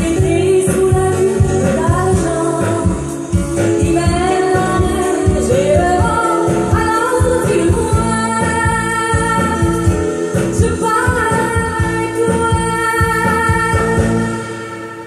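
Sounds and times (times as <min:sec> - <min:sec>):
soul song through loudspeakers: 0:00.0 - 0:15.0.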